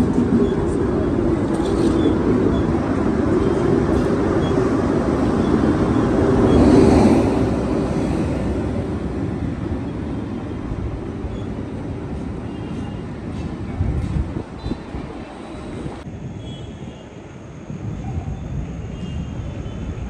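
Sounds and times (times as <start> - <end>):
train passing: 0.0 - 16.4.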